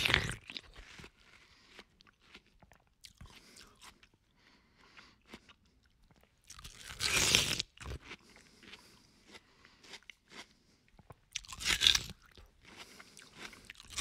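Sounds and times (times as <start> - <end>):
crunching bite of watermelon: 0.0 - 4.2, 4.9 - 14.0
person chewing: 0.0 - 14.0.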